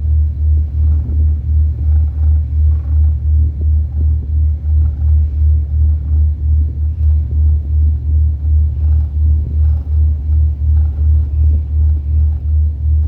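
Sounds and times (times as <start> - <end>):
ferry engine deep throb: 0.0 - 13.0.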